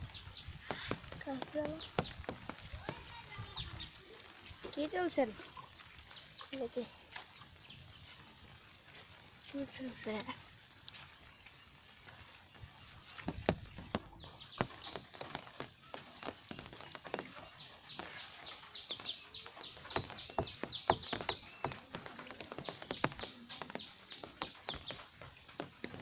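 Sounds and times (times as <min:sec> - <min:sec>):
rain drops tapping: 0:00.0 - 0:26.0.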